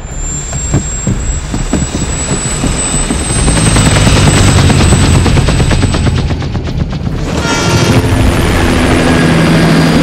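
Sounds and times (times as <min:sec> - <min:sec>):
helicopter high whine: 0:00.0 - 0:10.0
helicopter rotor beat: 0:00.0 - 0:10.0.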